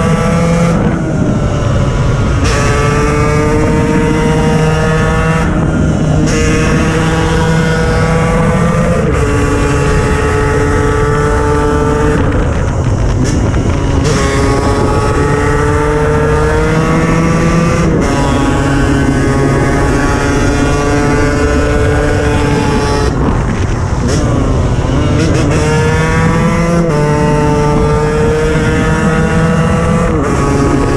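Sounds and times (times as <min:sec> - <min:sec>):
two-stroke engine running hard: 0:00.0 - 0:30.9.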